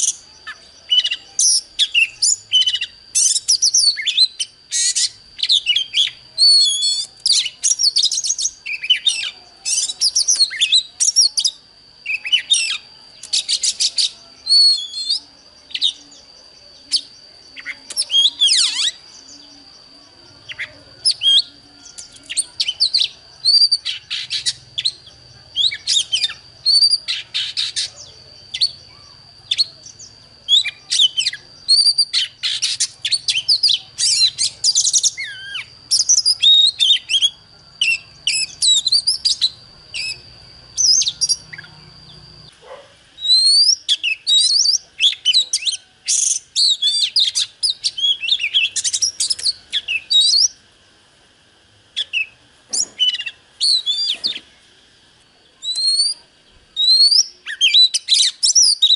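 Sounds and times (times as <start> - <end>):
bird singing whistles and trills: 0.0 - 50.6, 51.9 - 54.7, 55.4 - 58.9.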